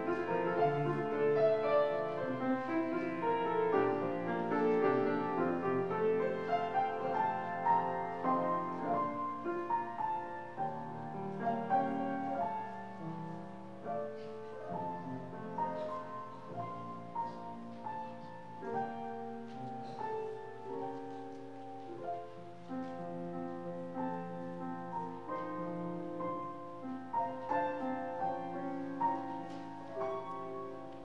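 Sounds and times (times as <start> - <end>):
slow piano piece: 0.0 - 31.0.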